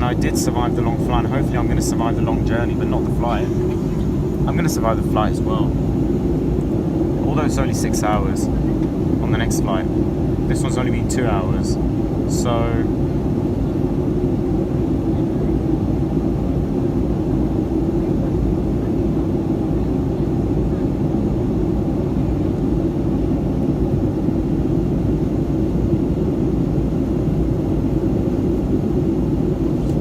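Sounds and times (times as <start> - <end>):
aircraft cabin engine drone: 0.0 - 30.0.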